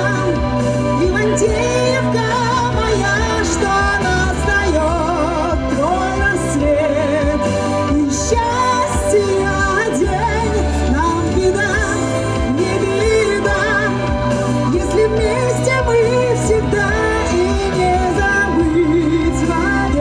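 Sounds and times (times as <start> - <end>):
pop backing track: 0.0 - 20.0
woman singing with vibrato: 0.0 - 20.0.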